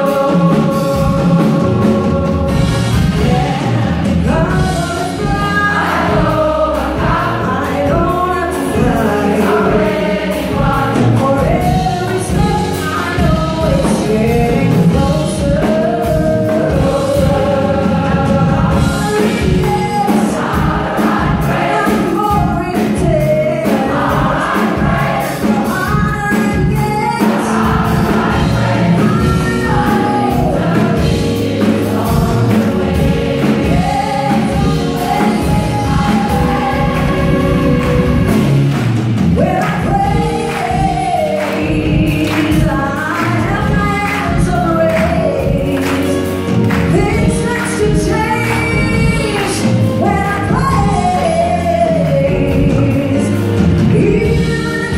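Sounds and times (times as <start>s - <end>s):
band with drums bass keyboards: 0.0s - 54.9s
gospel choir singing: 0.0s - 54.9s.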